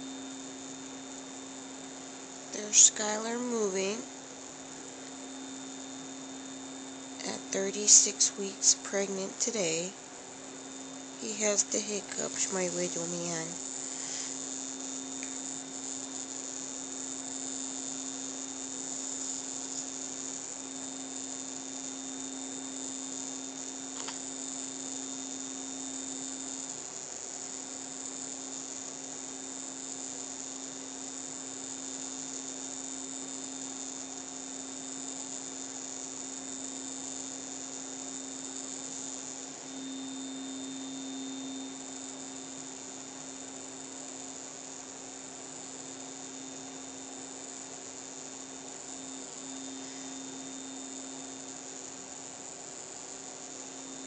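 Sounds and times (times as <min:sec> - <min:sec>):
electrical hum with high whine: 0:00.0 - 0:54.0.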